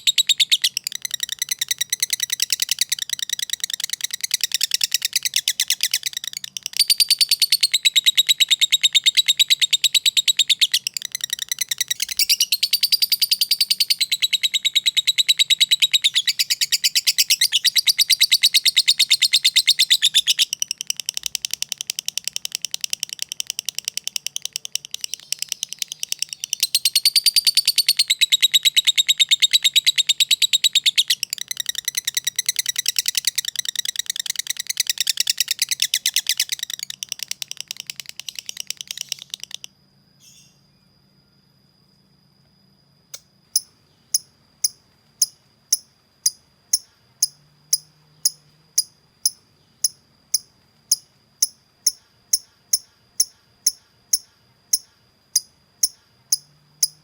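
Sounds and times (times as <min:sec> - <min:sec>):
lovebird chattering: 0:00.0 - 0:39.7, 0:43.6 - 0:57.0.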